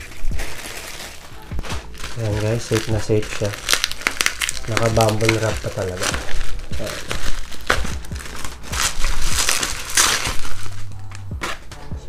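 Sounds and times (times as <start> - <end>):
bubble wrap crinkling: 0.0 - 11.9.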